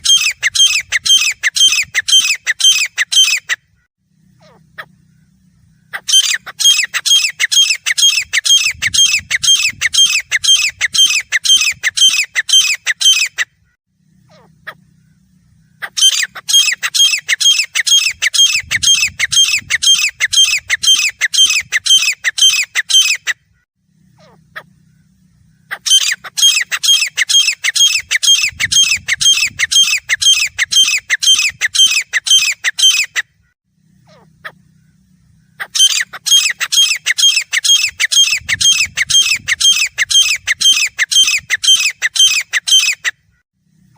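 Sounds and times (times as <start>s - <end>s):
bird calling harsh notes: 0.0s - 43.4s.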